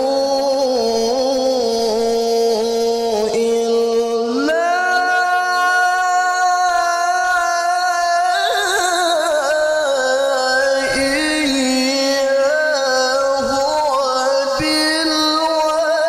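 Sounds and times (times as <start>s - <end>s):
man reciting into a microphone: 0.0s - 16.0s.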